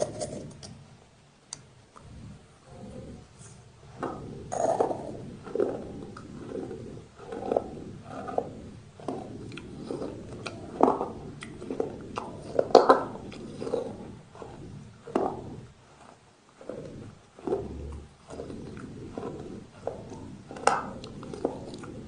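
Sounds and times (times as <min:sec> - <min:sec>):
person crunching and chewing brick: 0:04.0 - 0:22.0.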